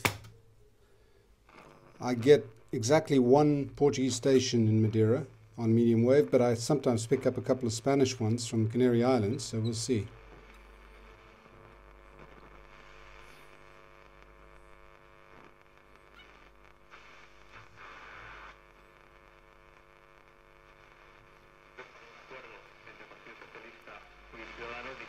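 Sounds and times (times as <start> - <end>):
radio hum and static: 1.4 - 25.0.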